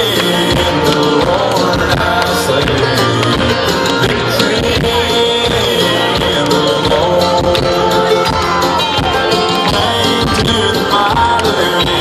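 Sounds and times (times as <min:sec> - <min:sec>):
country band playing: 0:00.0 - 0:12.0.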